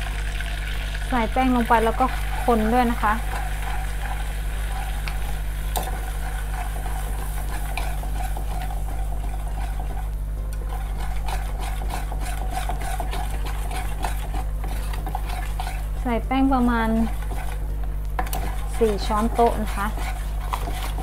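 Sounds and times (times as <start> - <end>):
faint sizzle: 0.0 - 21.0
steady low hum: 0.0 - 21.0
spoon scraping saucepan: 1.7 - 21.0.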